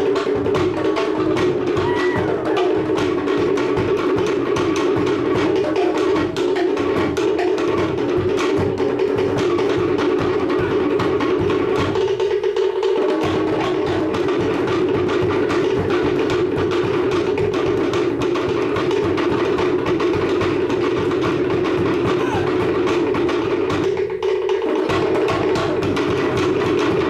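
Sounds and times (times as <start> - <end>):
deep drum: 0.0 - 27.0
wooden slit drums: 0.0 - 27.0.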